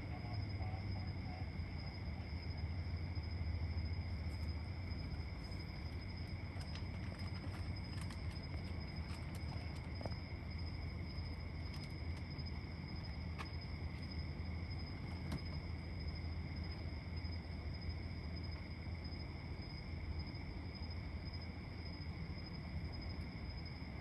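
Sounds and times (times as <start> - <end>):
low steady hum: 0.0 - 24.0
night insect trilling: 0.0 - 24.0.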